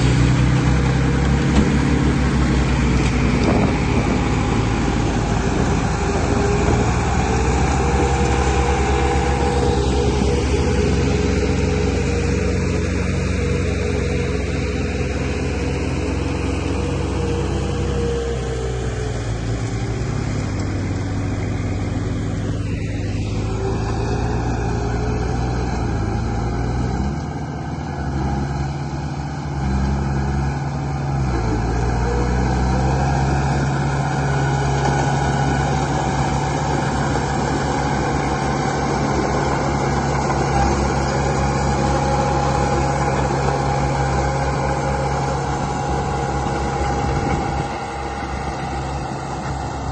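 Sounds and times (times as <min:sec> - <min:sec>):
radio-controlled vehicle engine: 0:00.0 - 0:28.6, 0:29.6 - 0:49.9.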